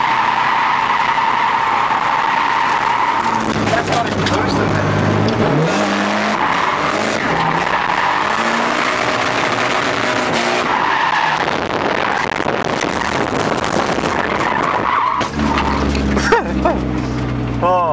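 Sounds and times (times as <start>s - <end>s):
tyres squealing and skidding: 0.0s - 17.2s
car engine revving: 0.0s - 17.7s.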